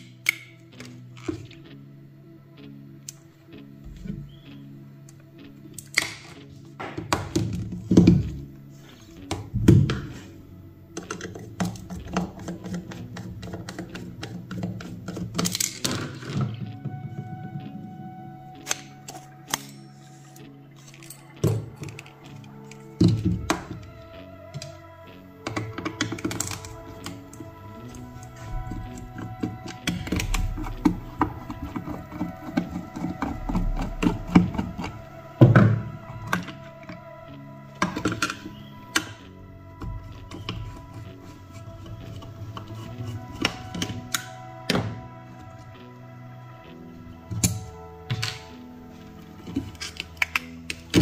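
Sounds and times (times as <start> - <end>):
background music with held tones: 0.0 - 51.0.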